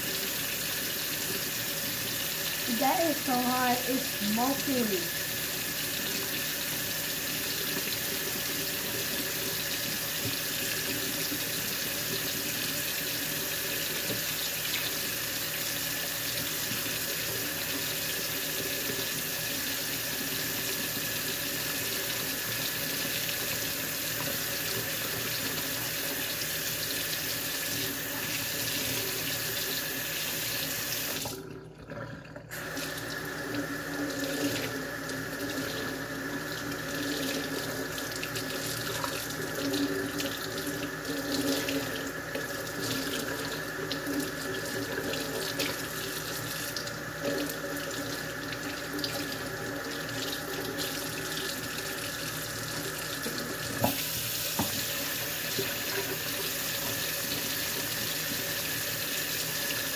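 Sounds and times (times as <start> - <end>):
faucet running into sink: 0.0 - 59.9.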